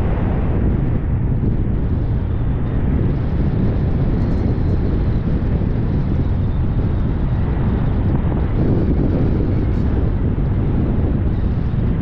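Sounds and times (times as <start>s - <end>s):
car driving rumble: 0.0s - 12.0s
road and wind noise: 0.0s - 12.0s.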